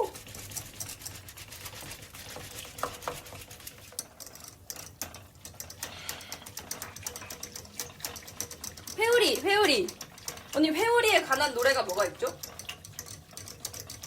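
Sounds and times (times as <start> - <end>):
spinning whisk clicking: 0.0 - 14.0.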